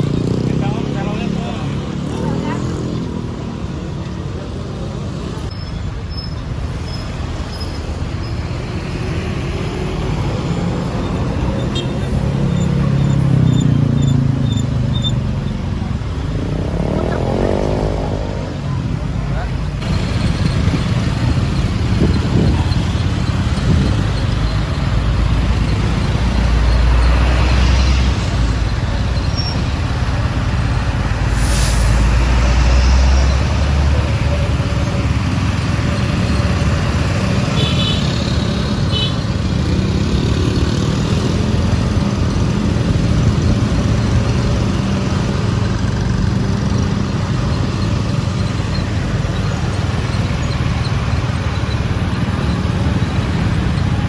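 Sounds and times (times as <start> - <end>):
heavy vehicle engine running: 3.1 - 54.0.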